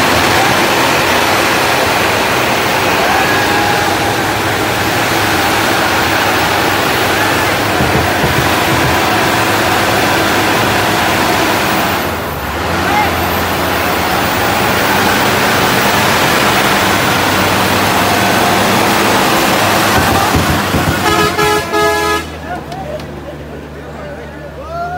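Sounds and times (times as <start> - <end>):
loud rushing noise: 0.0 - 22.4
vehicle engine running: 0.0 - 24.7
crowd of men's voices: 0.0 - 24.9.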